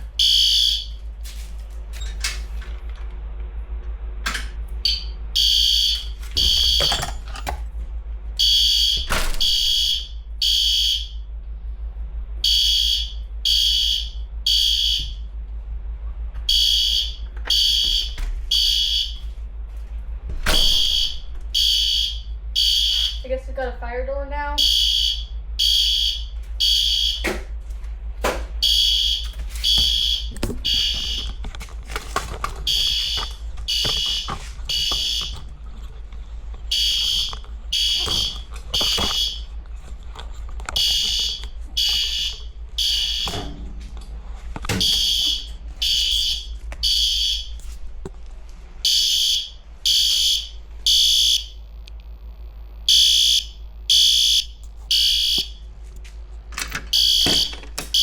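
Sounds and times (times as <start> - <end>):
fire alarm horn pulses: 0.0 - 2.6, 4.5 - 7.6, 8.2 - 15.6, 16.2 - 19.9, 20.5 - 27.5, 28.6 - 47.8, 48.8 - 55.9, 56.9 - 58.0
steady low hum: 0.0 - 58.0.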